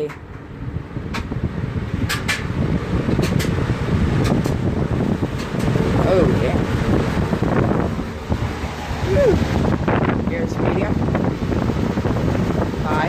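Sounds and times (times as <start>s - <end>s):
fan air rushing: 0.0s - 13.0s.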